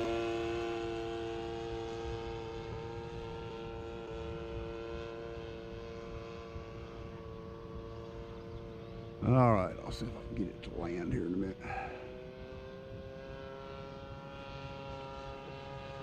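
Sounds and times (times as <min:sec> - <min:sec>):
model airplane motor drone: 0:00.0 - 0:16.0.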